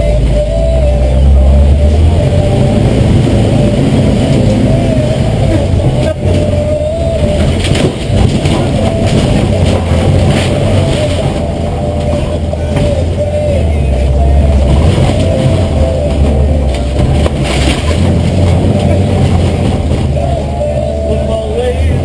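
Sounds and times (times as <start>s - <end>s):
engine running under load: 0.0s - 22.0s
vehicle body rattling and clunking: 1.8s - 22.0s.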